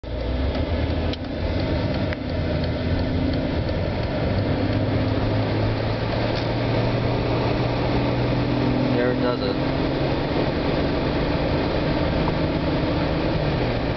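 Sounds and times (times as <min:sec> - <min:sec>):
car idling hum: 0:00.0 - 0:13.9.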